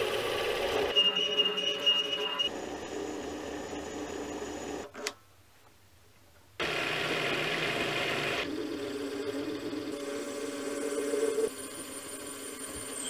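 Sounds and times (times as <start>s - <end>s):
lathe motor running: 0.0s - 4.9s, 6.6s - 13.0s.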